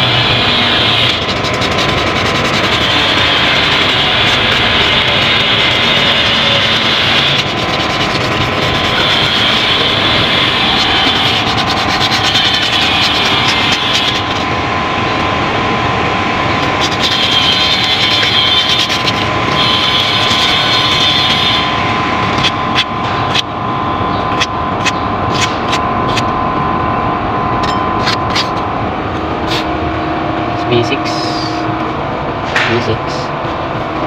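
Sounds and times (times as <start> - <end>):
machine droning: 0.0 - 34.0.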